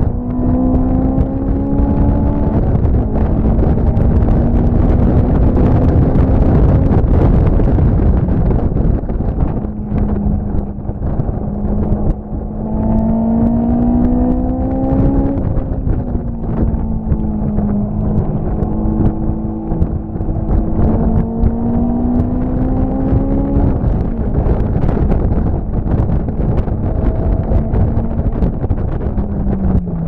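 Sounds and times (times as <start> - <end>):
engine speeding up: 0.0 - 30.0
wind buffeting on microphone: 0.0 - 30.0.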